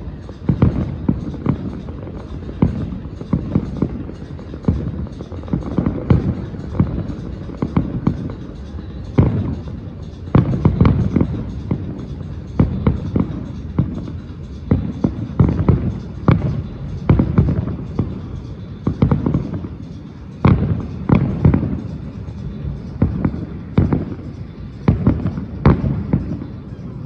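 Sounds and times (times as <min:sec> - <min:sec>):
fireworks bangs and booms: 0:00.0 - 0:27.0.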